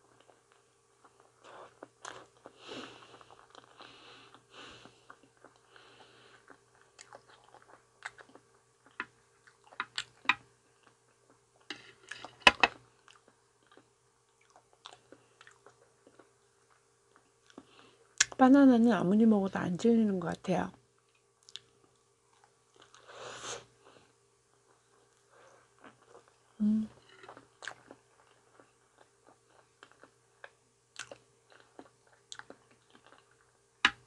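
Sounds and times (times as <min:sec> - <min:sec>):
chewing soft banana: 0:00.0 - 0:12.3, 0:12.9 - 0:18.4, 0:21.0 - 0:23.1, 0:23.9 - 0:26.6, 0:27.2 - 0:34.0.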